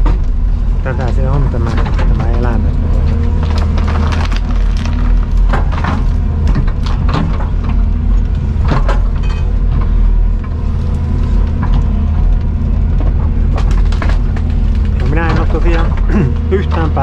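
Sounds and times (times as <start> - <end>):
engine running: 0.0 - 17.0
knocks and clanks: 0.0 - 17.0.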